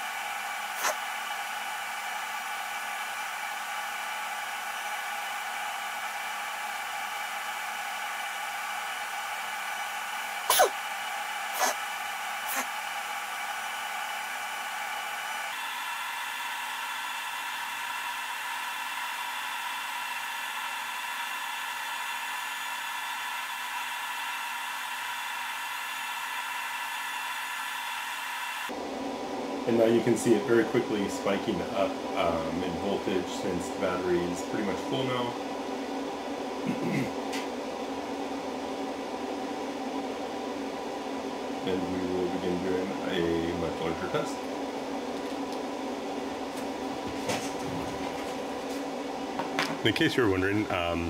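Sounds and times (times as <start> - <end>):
charger whirring hum with whine: 0.0 - 51.0.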